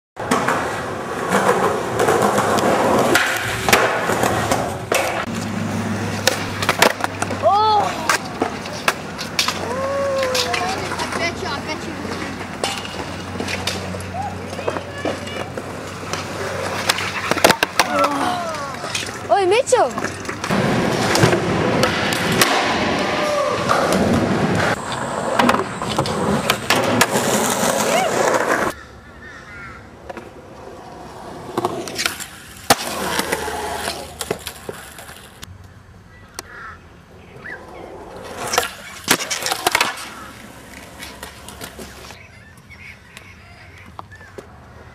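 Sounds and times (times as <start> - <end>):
skateboard clacking on ground: 0.2 - 28.8, 30.0 - 35.6, 37.6 - 42.2
skateboard wheels rolling on concrete: 0.2 - 44.9.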